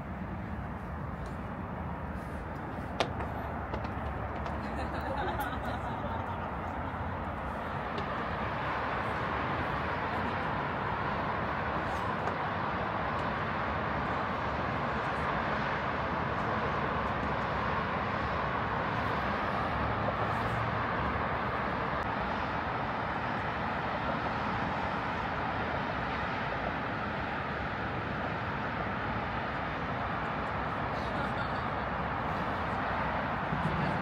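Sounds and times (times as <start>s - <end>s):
passing traffic rush: 0.0s - 34.0s.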